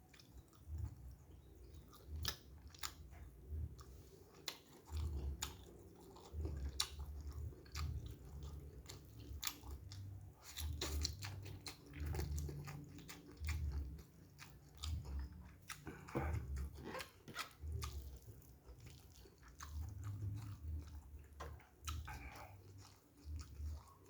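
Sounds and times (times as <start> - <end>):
close chewing and biting: 0.0 - 24.0.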